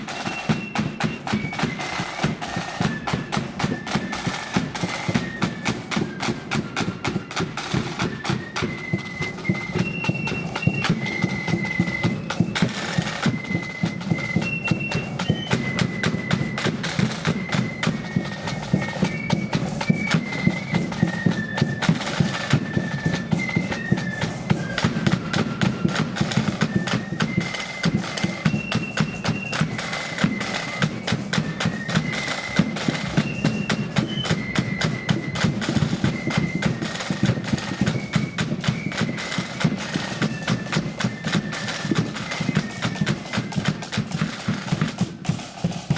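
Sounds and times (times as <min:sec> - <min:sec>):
flutes playing high melody: 0:00.0 - 0:45.9
rapid snare drumming: 0:00.0 - 0:45.9.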